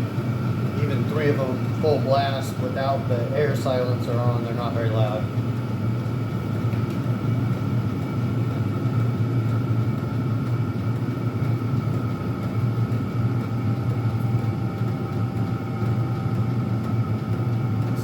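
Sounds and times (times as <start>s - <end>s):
air heaters humming: 0.0s - 18.0s.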